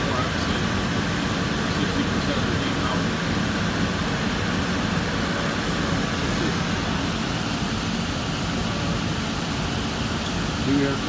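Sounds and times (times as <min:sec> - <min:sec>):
furnace blower running: 0:00.0 - 0:11.0.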